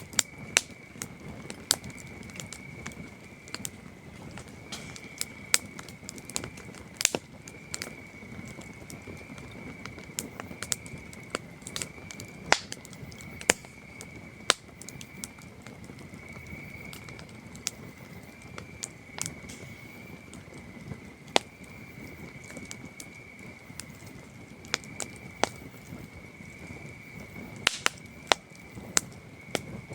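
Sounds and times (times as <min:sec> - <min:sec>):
campfire crackling and popping: 0:00.0 - 0:29.9
crickets trilling: 0:00.0 - 0:29.9.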